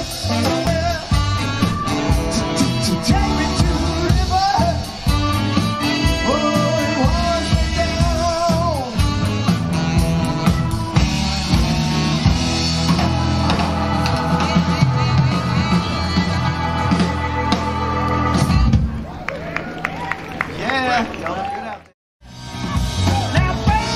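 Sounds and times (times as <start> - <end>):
distant live rock band: 0.0 - 21.2, 22.2 - 23.9.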